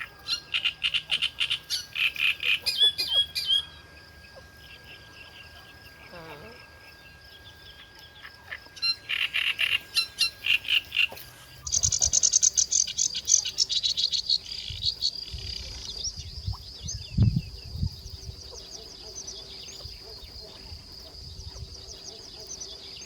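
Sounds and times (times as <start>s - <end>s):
chirping calls: 0.0s - 23.0s
high insect whine: 0.0s - 23.0s.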